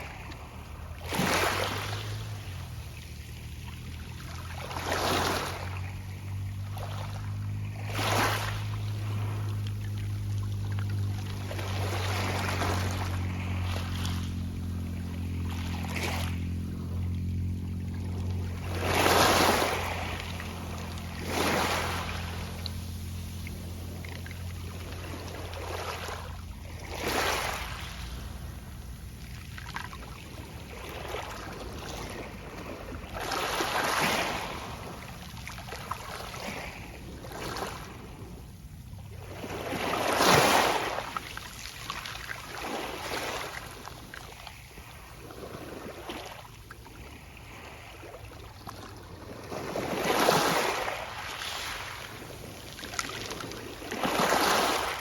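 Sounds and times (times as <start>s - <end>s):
small waves washing onto pebble beach: 0.0s - 38.5s, 39.2s - 55.0s.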